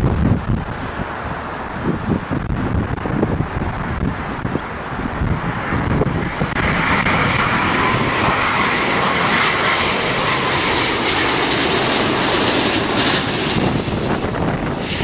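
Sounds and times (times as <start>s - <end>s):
aircraft engines running: 0.0s - 15.0s
wind buffeting microphone: 0.0s - 15.0s.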